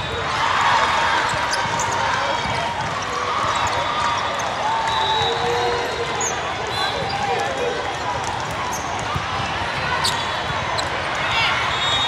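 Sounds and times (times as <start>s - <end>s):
hubbub of spectators' voices: 0.0s - 12.0s.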